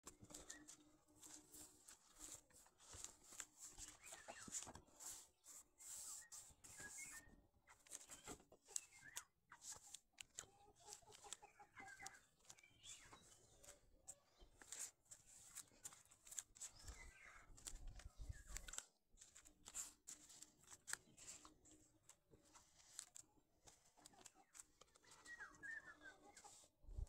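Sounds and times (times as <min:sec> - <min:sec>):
small clicks and crackles: 0:00.0 - 0:05.2, 0:06.2 - 0:27.0.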